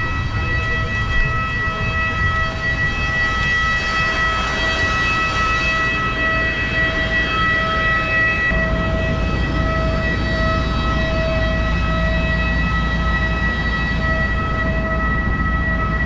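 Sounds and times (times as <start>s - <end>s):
jet turbine whine: 0.0s - 16.0s.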